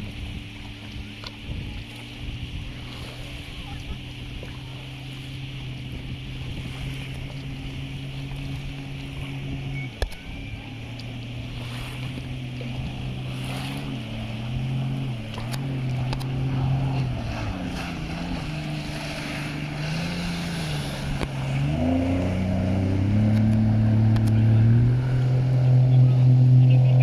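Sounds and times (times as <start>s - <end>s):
jet ski engine revving: 0.0s - 27.0s.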